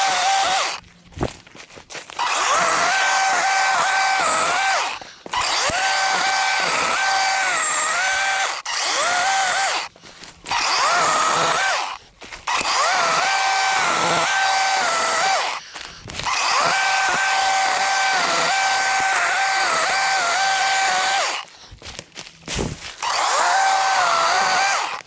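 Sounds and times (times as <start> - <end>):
electric chainsaw cutting branches: 0.0 - 1.4, 2.1 - 25.0.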